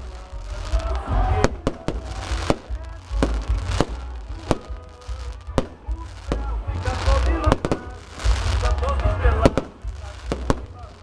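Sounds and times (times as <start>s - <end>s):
fireworks bangs: 0.0s - 11.0s
steady low rumble: 0.0s - 11.0s.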